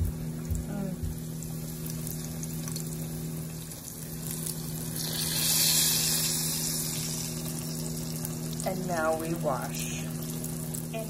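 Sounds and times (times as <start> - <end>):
low hum: 0.0 - 11.0
fish frying in hot oil: 1.2 - 11.0.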